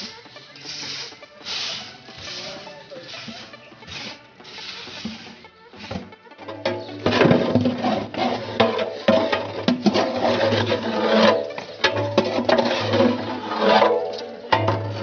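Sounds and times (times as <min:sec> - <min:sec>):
metal ladle scraping a pot: 0:00.0 - 0:15.0
music: 0:00.0 - 0:15.0.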